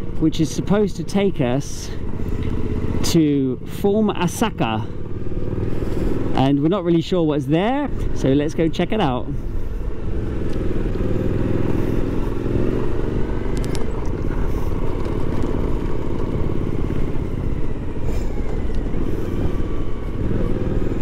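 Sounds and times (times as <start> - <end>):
motorcycle engine running: 0.0 - 21.0
rumbling from dirt track: 0.0 - 21.0.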